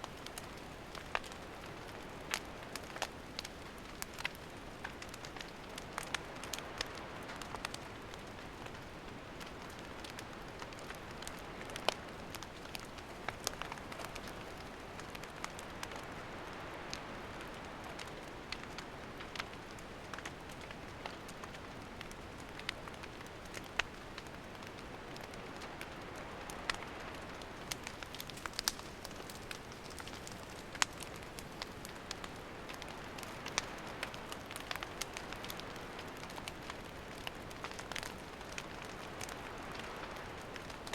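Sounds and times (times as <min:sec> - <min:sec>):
burning wood crackling and popping: 0:00.0 - 0:40.9
campfire hissing: 0:00.0 - 0:40.9.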